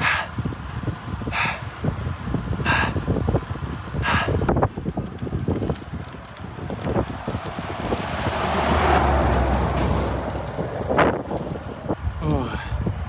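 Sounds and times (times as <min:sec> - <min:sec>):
vehicle passing by: 0:00.0 - 0:12.5
wind buffeting microphone: 0:00.0 - 0:13.0.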